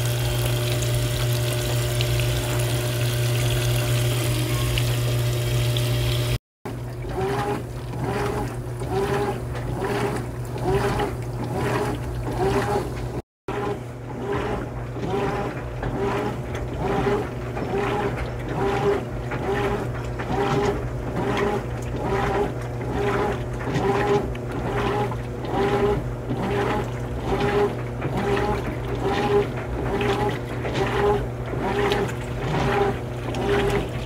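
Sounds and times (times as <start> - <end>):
churning water: 0.0 - 34.0
washing machine motor whining: 0.0 - 34.0.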